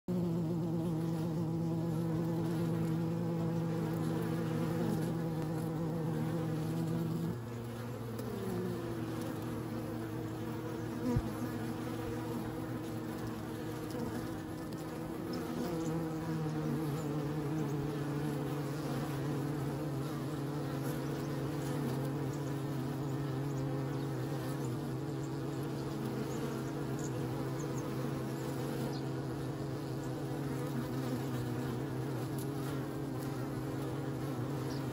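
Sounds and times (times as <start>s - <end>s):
bees buzzing: 0.1s - 34.9s.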